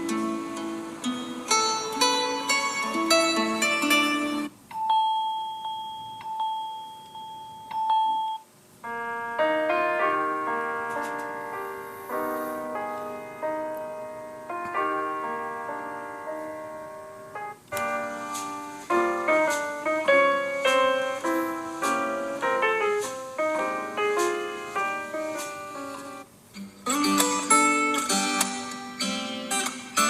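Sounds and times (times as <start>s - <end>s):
phone ringtone piano melody: 1.1s - 26.2s.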